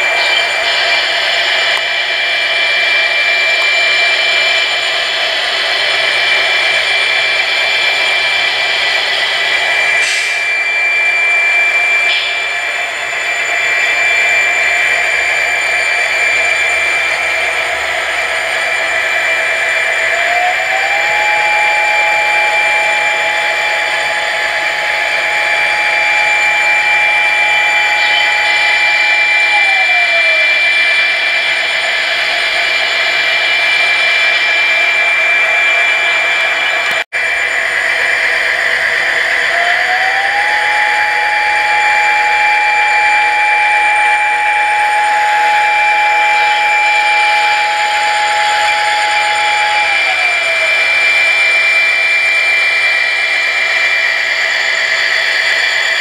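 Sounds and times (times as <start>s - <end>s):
model locomotive diesel sound: 0.0s - 56.0s.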